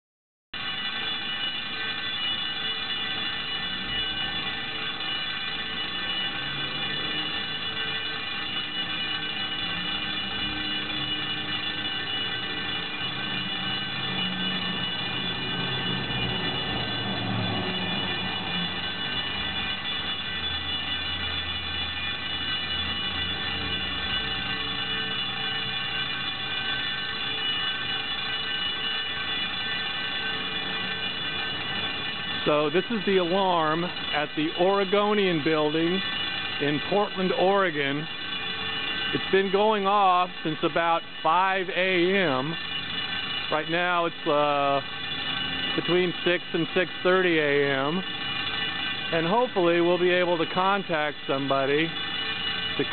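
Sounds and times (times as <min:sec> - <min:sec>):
fire alarm ringing: 0:00.6 - 0:52.9.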